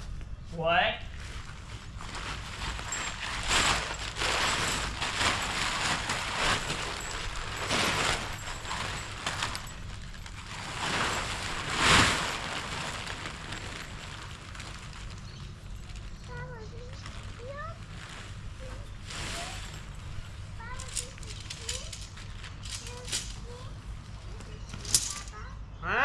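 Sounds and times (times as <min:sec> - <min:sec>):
tent rustling and rattling: 0:01.0 - 0:25.5.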